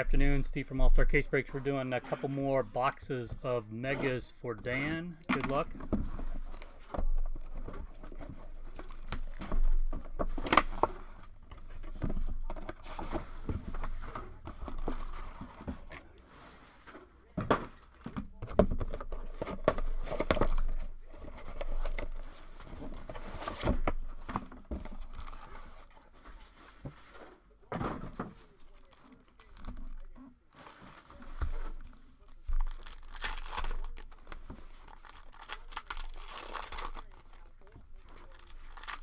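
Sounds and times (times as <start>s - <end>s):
plastic wrapping crinkling and tearing: 2.6s - 16.6s, 17.7s - 27.6s, 28.2s - 39.0s
cardboard clicks and rustles: 2.9s - 39.0s.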